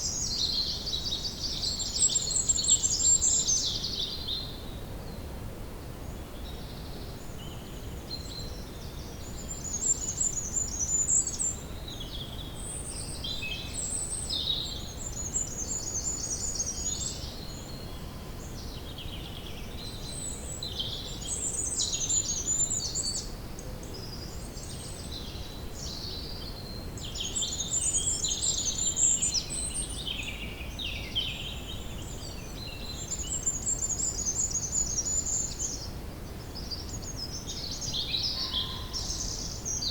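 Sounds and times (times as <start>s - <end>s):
songbirds singing and chirping: 0.0s - 4.7s, 6.2s - 39.9s.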